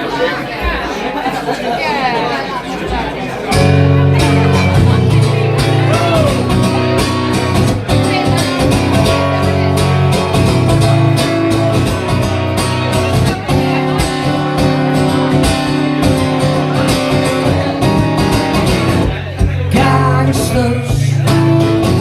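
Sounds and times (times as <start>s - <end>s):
guitar: 2.9s - 22.0s
live band playing: 3.5s - 22.0s.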